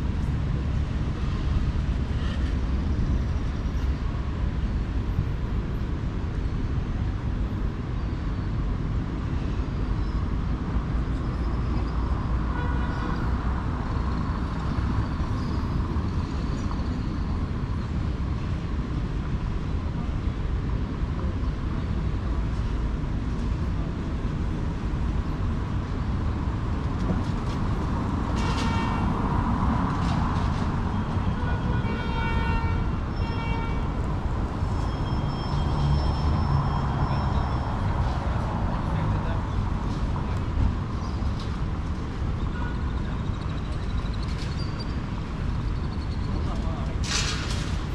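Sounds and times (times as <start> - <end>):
rumble of passing vehicles: 0.0 - 47.9.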